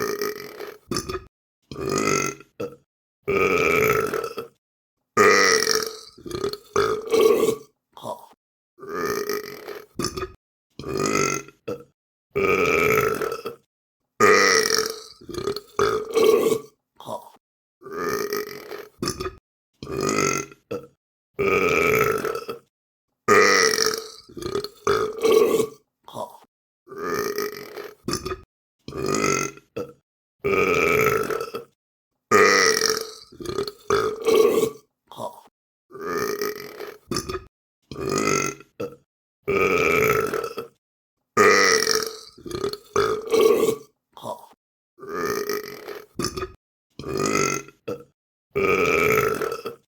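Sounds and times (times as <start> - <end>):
person burping: 0.0 - 4.6, 5.2 - 22.7, 23.3 - 40.8, 41.4 - 49.9.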